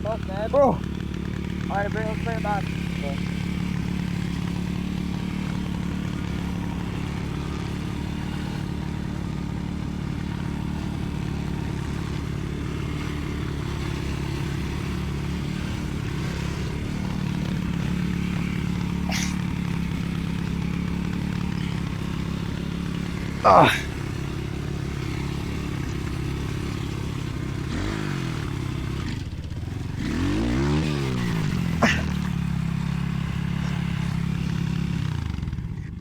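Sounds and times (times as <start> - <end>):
dirt bike engine running: 0.0 - 36.0.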